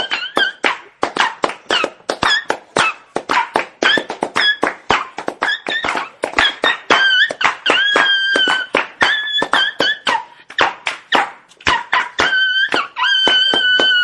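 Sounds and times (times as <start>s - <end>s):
dog whining and yelping: 0.0s - 10.5s, 11.1s - 14.0s.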